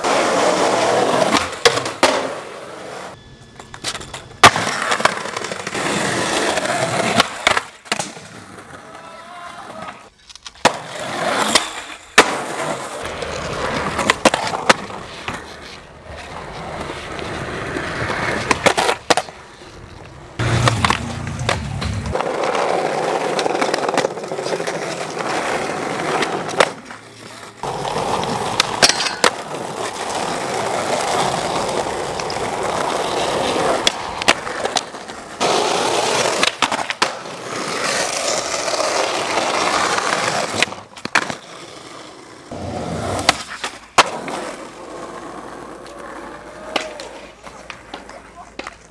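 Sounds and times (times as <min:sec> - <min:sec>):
skateboard clacking on ground: 0:00.0 - 0:48.9
skateboard wheels rolling on concrete: 0:00.0 - 0:48.9.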